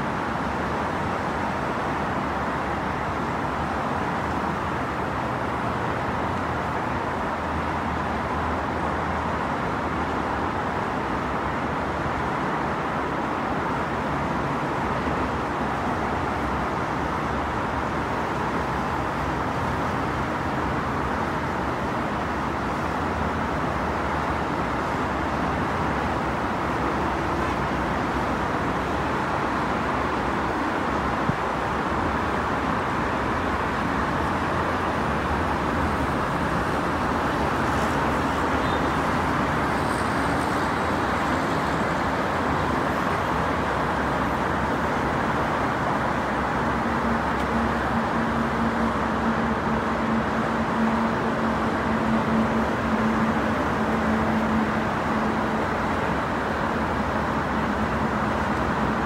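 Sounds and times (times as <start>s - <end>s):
highway traffic: 0.0s - 59.0s.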